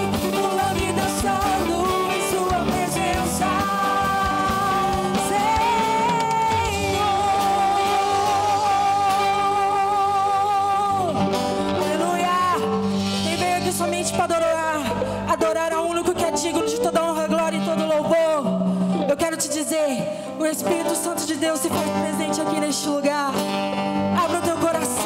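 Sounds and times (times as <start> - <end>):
band with guitar: 0.0 - 25.0
person singing with vibrato: 0.0 - 25.0.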